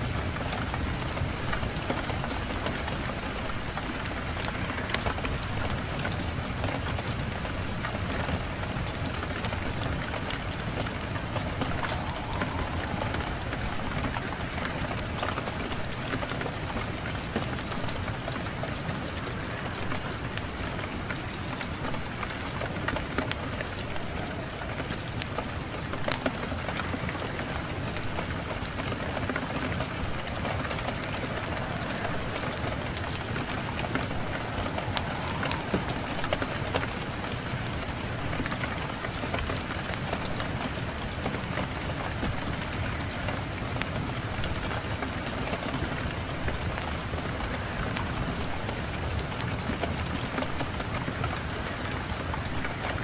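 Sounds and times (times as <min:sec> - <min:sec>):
rushing wind: 0:00.0 - 0:53.0
fire crackling and popping: 0:07.6 - 0:53.0.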